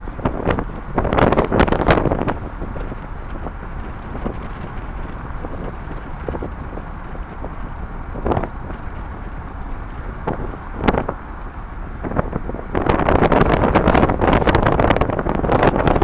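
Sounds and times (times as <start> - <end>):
road rumble: 0.0 - 16.0
wind buffets: 0.0 - 16.0
wind rush from moving car: 0.0 - 16.0.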